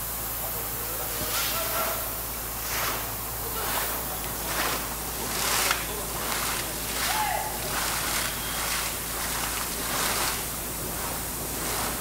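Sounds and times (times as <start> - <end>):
muddy water gushing and splashing: 0.2 - 12.0.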